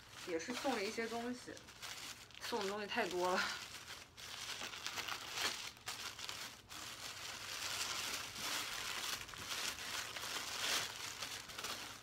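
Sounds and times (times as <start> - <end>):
wrapping crumpling and crackling: 0.0 - 12.0.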